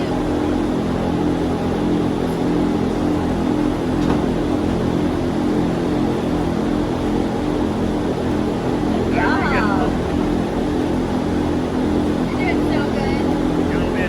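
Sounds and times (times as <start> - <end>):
motor droning steadily: 0.0 - 14.0.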